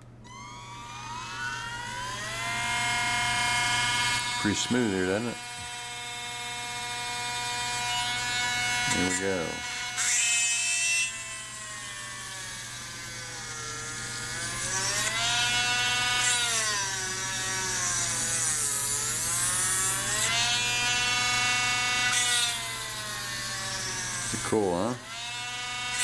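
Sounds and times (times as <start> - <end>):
rotary tool drilling into wood: 0.0 - 26.0.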